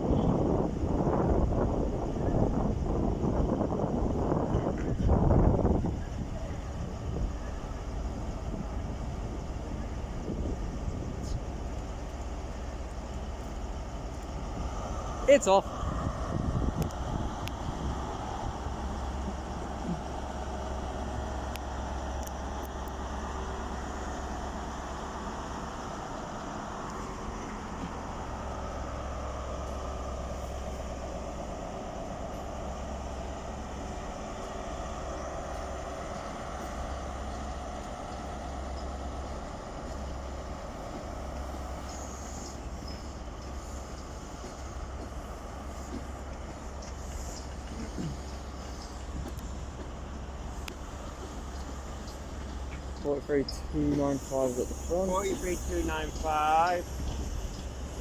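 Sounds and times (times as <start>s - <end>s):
diesel train rumble: 0.0s - 58.0s
train coaches rolling by: 0.0s - 58.0s.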